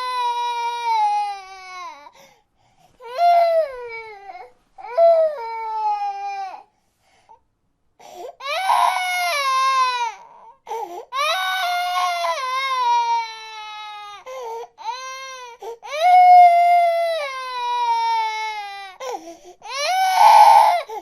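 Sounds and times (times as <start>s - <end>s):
baby crying: 0.0s - 2.1s, 3.0s - 6.7s, 8.4s - 21.0s.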